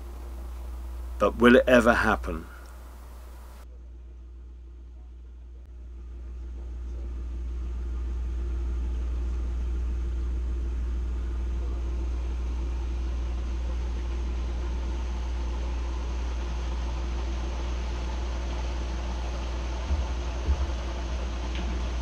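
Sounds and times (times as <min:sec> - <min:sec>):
boat engine idling: 0:00.0 - 0:03.6, 0:05.5 - 0:22.0.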